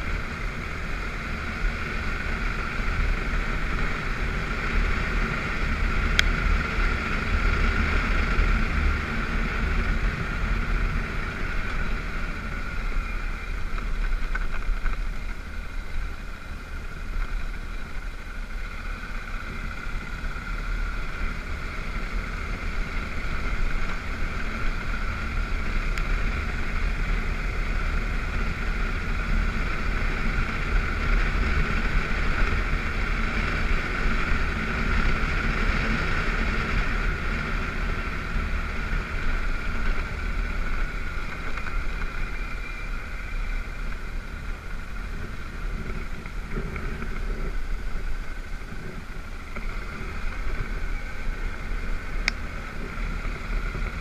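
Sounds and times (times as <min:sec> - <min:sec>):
motorcycle engine drone: 0:00.0 - 0:54.0
road rumble: 0:00.0 - 0:54.0
wind: 0:00.0 - 0:54.0.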